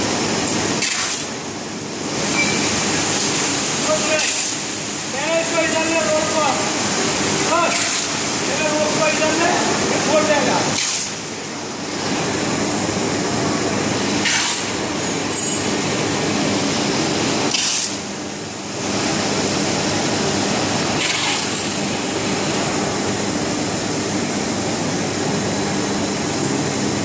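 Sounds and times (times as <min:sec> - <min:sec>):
mill machinery rumble and hum: 0:00.0 - 0:27.0.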